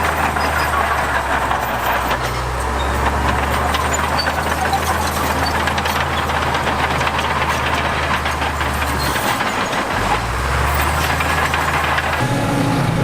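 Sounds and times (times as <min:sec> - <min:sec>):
diesel engine running: 0:00.0 - 0:13.0
machinery clattering and knocking: 0:00.0 - 0:13.0.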